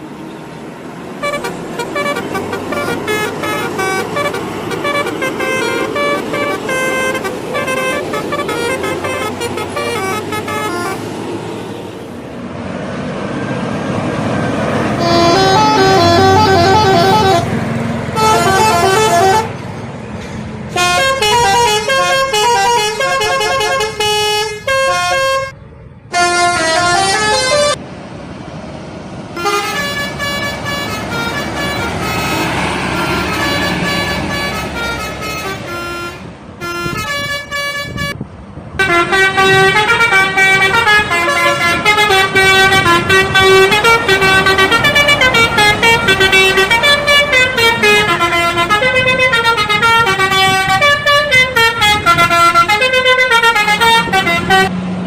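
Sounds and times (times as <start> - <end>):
multi-tone bus horns melodies: 0.0 - 12.2, 13.8 - 19.7, 20.7 - 27.8, 29.3 - 38.2, 38.8 - 54.8.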